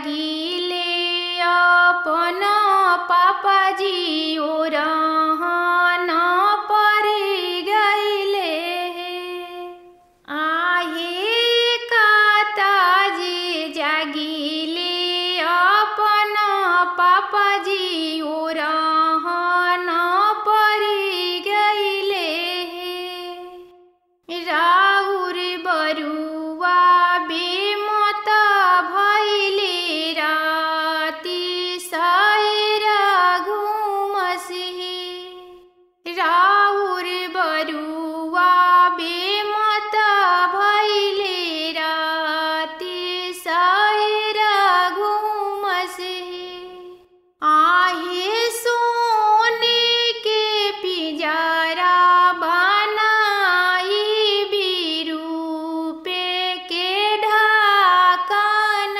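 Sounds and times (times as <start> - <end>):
woman singing folk song: 0.0 - 58.9.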